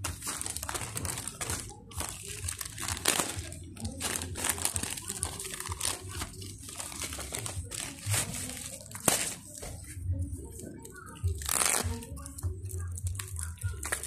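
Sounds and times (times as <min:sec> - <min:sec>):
plastic bag and bubble wrap crinkling: 0:00.0 - 0:14.0.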